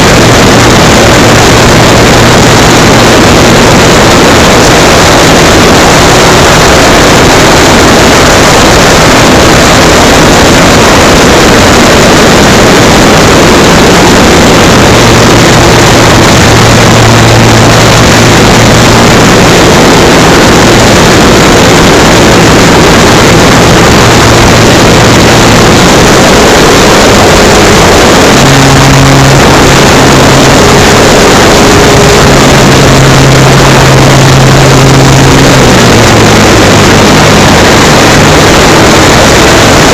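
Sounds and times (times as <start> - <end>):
model plane motor and propeller: 0.0 - 39.9
rushing wind noise: 0.0 - 39.9.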